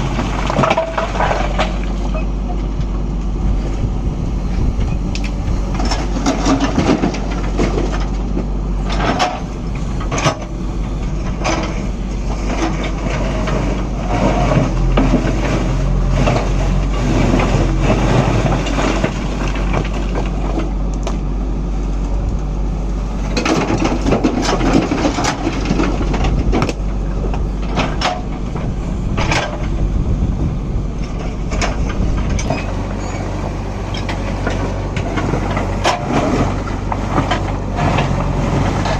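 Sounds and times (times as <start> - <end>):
stones clattering into lorry: 0.0 - 2.6, 5.1 - 21.2, 23.3 - 29.8, 31.0 - 38.9
diesel engine running: 0.0 - 38.9.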